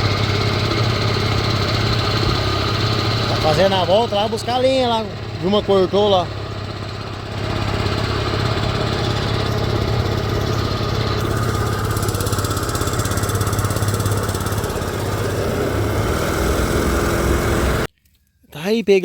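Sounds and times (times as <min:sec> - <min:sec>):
outboard motor running: 0:00.0 - 0:17.9.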